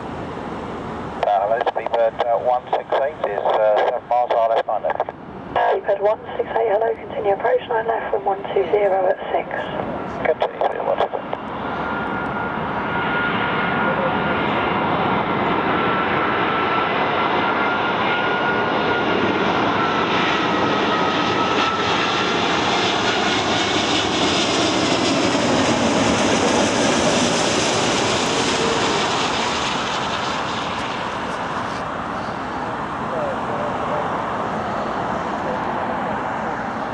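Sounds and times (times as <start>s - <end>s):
jet airliner engines: 0.0s - 36.9s.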